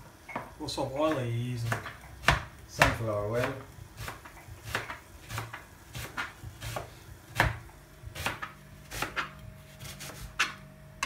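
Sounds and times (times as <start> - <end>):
knife chopping on a plastic board: 1.1 - 10.6.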